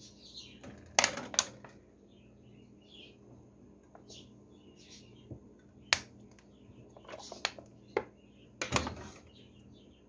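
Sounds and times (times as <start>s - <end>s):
faint bird chirps: 1.9s - 10.0s.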